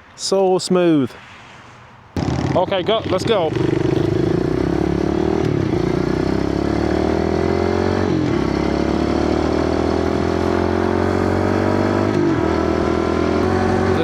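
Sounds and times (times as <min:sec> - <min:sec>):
motorbike engine accelerating: 0:02.2 - 0:14.0.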